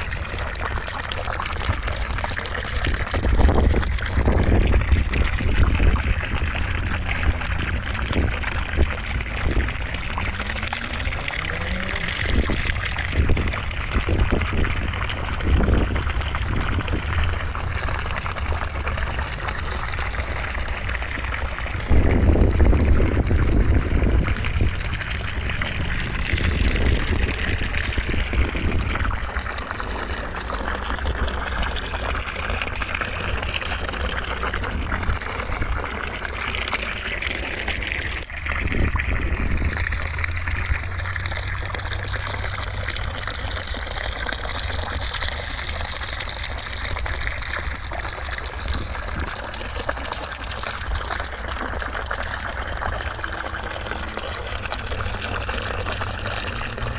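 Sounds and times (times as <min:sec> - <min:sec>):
rushing water-like white noise: 0:00.0 - 0:56.9.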